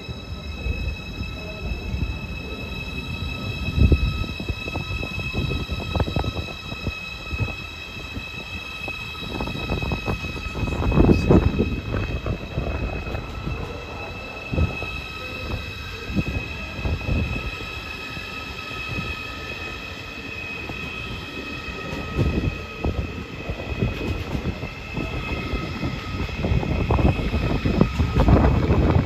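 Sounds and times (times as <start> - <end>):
low train rumble: 0.0 - 29.0
train wheels squealing: 0.0 - 29.0.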